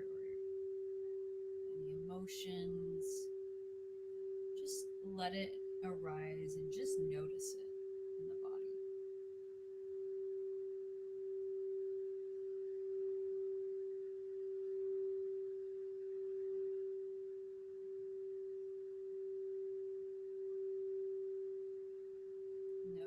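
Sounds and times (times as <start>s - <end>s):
singing bowl tone: 0.0s - 23.0s.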